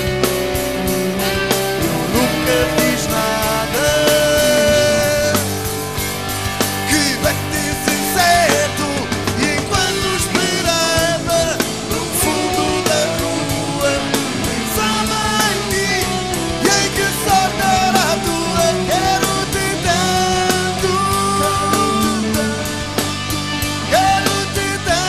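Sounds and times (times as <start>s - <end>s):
live rock band playing: 0.0s - 25.0s
melodic lead guitar line: 0.0s - 25.0s.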